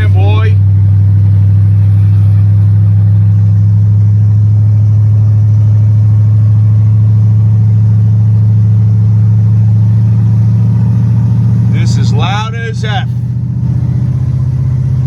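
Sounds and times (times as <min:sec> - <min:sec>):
loud engine on open headers: 0:00.0 - 0:15.0.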